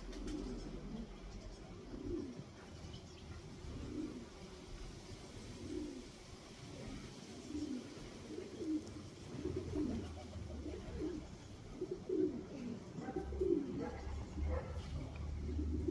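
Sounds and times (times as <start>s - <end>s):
pigeons cooing: 0.0s - 15.9s.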